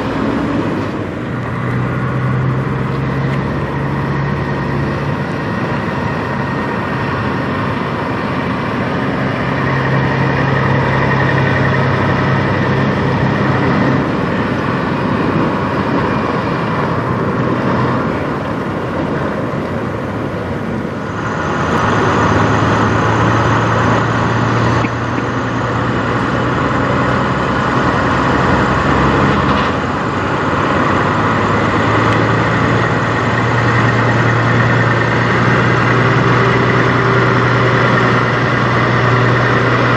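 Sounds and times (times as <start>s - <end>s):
truck diesel engine: 0.0s - 39.9s.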